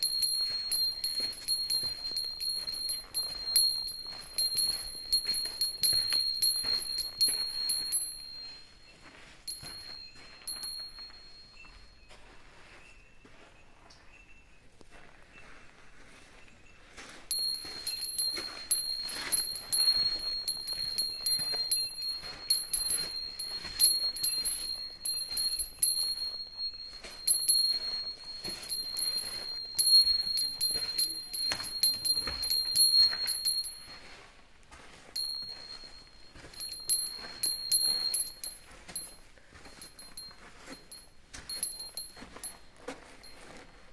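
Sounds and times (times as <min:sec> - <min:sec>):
small bell jingling: 0:00.0 - 0:13.2, 0:16.4 - 0:43.9
footsteps on gravel path: 0:00.0 - 0:13.6, 0:14.8 - 0:43.9.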